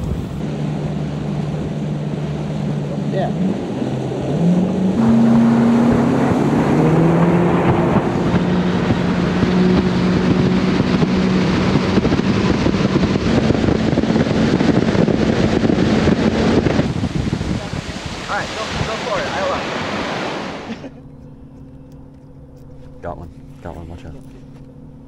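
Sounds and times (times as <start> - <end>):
wind rushing over microphone: 0.0 - 20.9
outboard motor running: 0.0 - 25.0.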